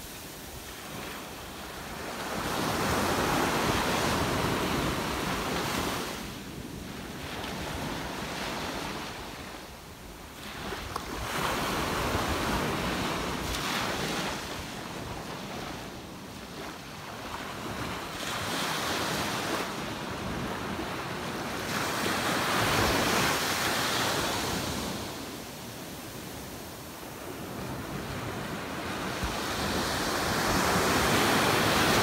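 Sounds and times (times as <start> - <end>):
ocean waves breaking on beach: 0.0 - 32.0.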